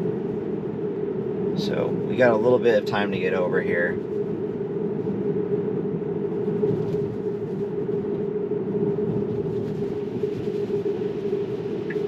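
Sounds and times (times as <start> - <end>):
road and tyre noise in car: 0.0 - 12.0.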